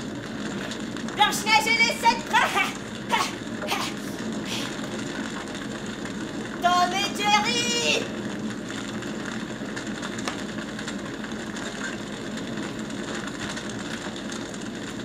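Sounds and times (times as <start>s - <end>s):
machine whirring and clattering: 0.0s - 15.0s.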